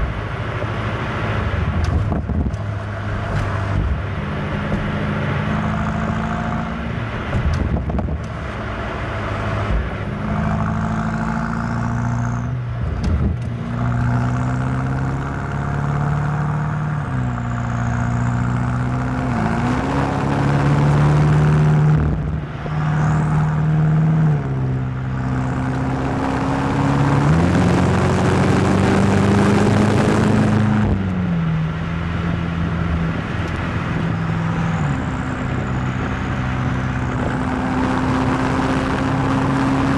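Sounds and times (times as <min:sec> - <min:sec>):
car engine shifting gears: 0:00.0 - 0:39.9.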